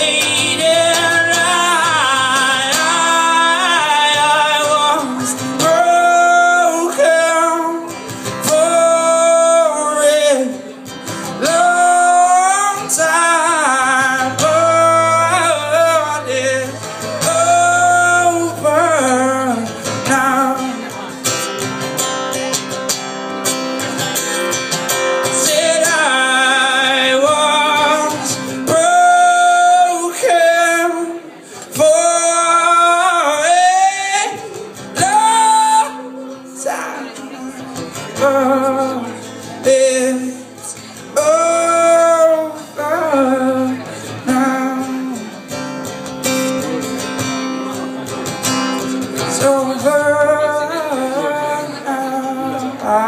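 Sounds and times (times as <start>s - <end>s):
man singing: 0.0s - 22.7s, 23.4s - 53.0s
strummed acoustic guitar: 0.0s - 53.0s.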